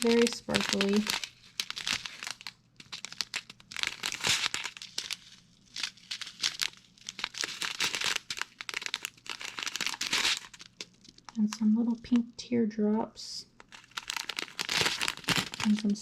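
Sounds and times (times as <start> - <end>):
plastic bags crinkling: 0.0 - 12.2, 13.6 - 16.0.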